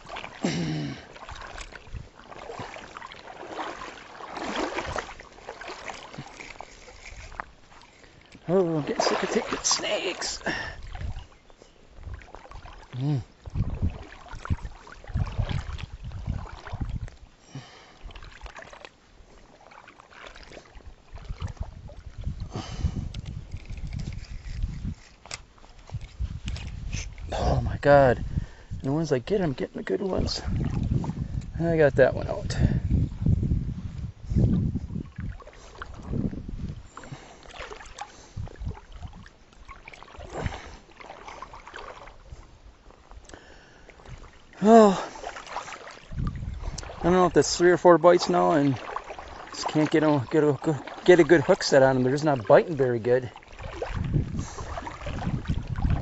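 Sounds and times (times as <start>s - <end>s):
knocks and clatter in kayak: 0.0s - 17.3s, 18.0s - 43.3s, 44.0s - 56.0s
faint water sounds: 0.0s - 56.0s.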